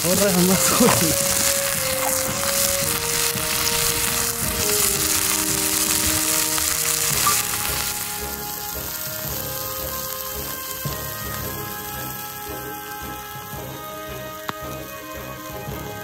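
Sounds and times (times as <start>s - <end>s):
background music: 0.0s - 16.0s
meat sizzling over fire: 0.0s - 16.0s.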